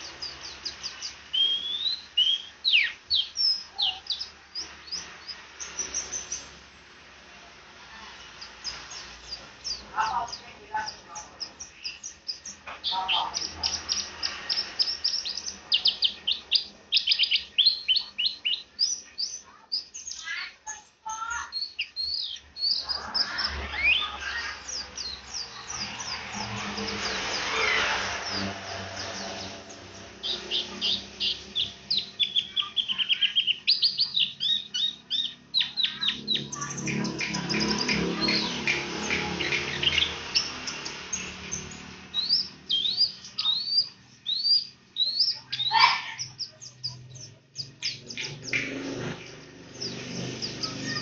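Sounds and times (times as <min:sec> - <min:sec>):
bird singing chattering chirps: 0:00.0 - 0:06.6, 0:08.2 - 0:51.0.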